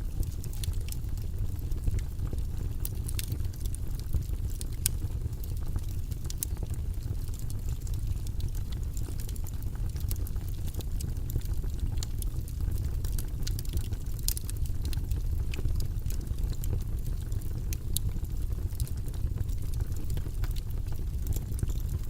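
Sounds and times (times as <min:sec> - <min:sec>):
low rumbling white noise: 0:00.0 - 0:22.0.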